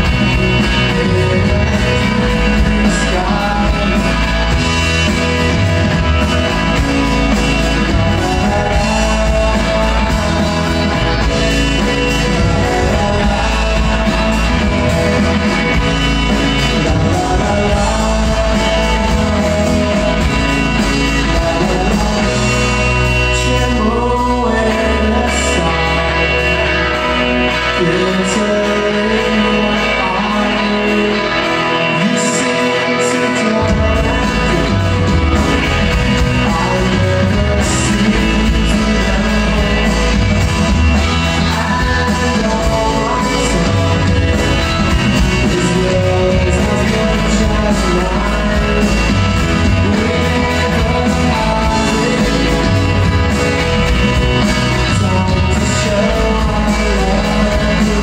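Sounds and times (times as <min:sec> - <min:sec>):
man singing: 0:00.0 - 0:58.0
rock band playing live: 0:00.0 - 0:58.0.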